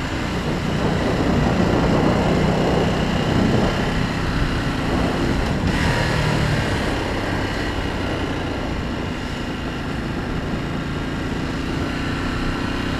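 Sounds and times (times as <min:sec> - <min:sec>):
motorcycle engine running: 0:00.0 - 0:12.9
wind rush over microphone: 0:00.0 - 0:12.9.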